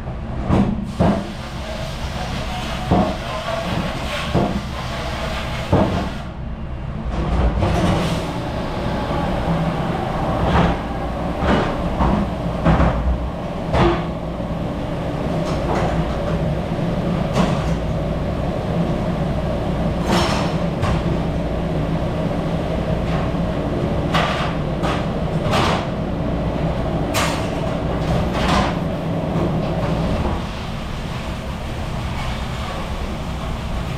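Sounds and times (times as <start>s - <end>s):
machine rumble and hum: 6.4s - 33.9s.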